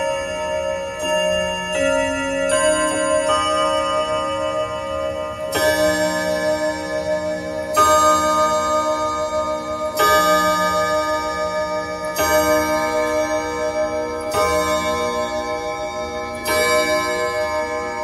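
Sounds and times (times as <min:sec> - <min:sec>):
wall clock striking gong rods: 0:00.0 - 0:18.0.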